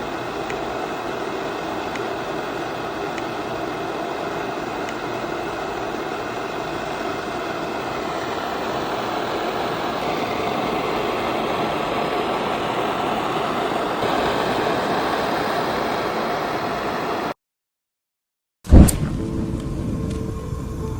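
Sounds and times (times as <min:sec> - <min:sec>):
stove burner rushing: 0:00.0 - 0:17.4.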